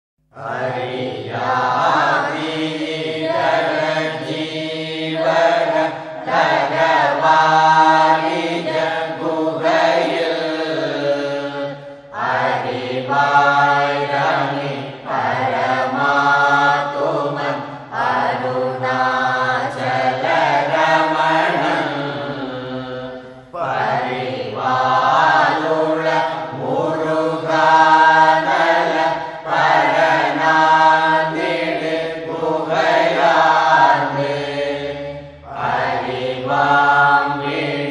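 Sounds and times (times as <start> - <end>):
devotional chant singing: 0.3 - 37.9.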